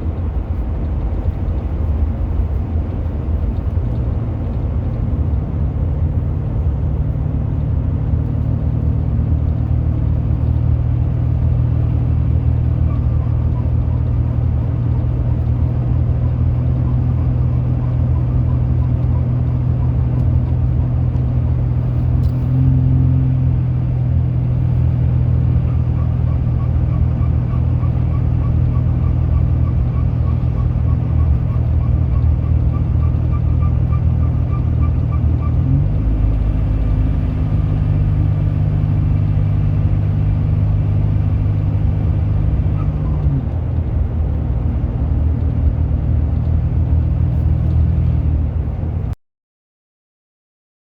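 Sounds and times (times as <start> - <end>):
car engine droning: 0.0 - 49.2.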